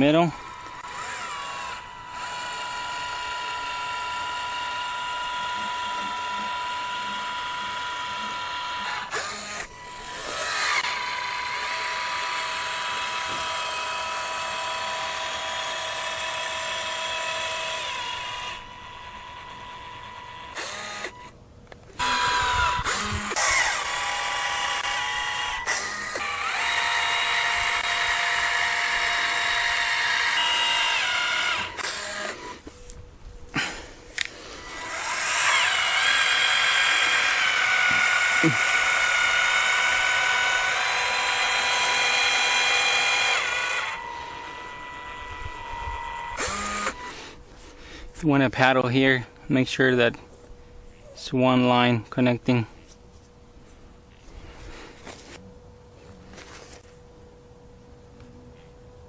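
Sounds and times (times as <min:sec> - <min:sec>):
electric caulking gun whining: 0:00.0 - 0:48.0.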